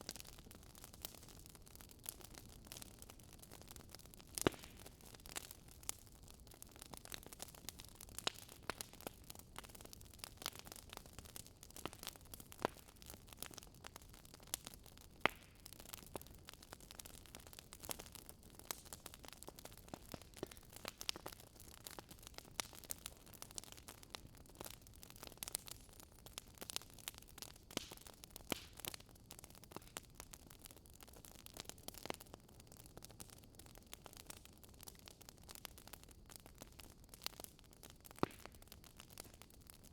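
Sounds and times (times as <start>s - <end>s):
faint wood fire crackling: 0.0s - 39.9s.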